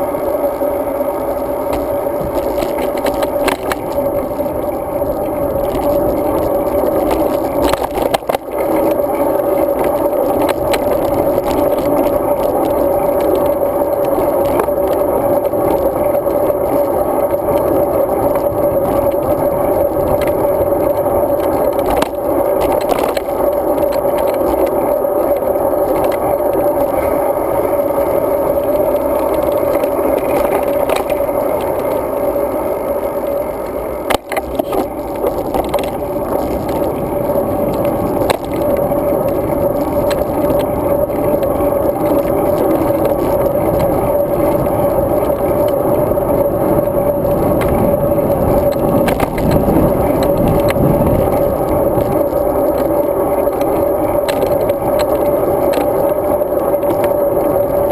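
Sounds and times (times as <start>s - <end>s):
bicycle rattles: 0.0s - 57.9s
wind and road noise: 0.0s - 57.9s.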